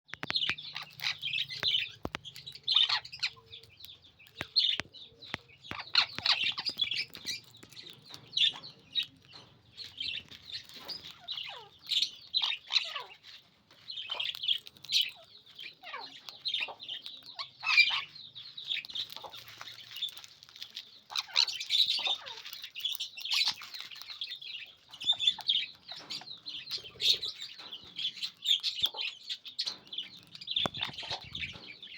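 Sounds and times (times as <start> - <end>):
parrot chirping and squawking: 0.3 - 3.6, 5.6 - 7.6, 10.0 - 20.2, 21.1 - 31.9.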